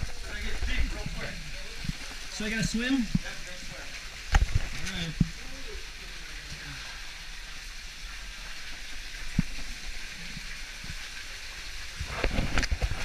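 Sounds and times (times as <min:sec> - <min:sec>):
running water hiss: 0:00.0 - 0:13.0
water splashing from swimming: 0:00.0 - 0:13.0.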